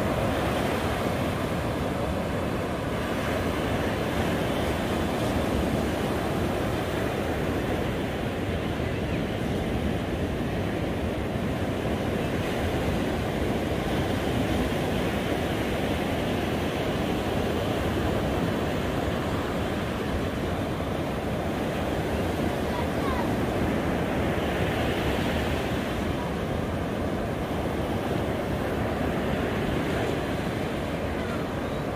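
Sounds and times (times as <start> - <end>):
ocean surf washing up beach: 0.0 - 31.9.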